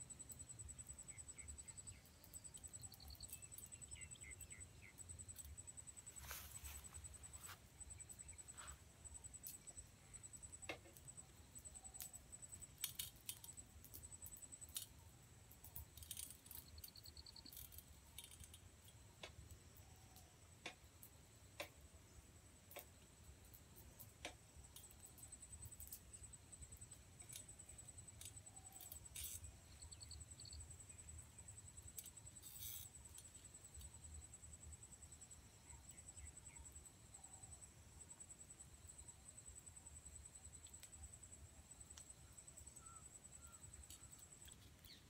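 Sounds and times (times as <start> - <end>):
high-pitched insect trill: 0.0 - 21.2, 22.1 - 45.0.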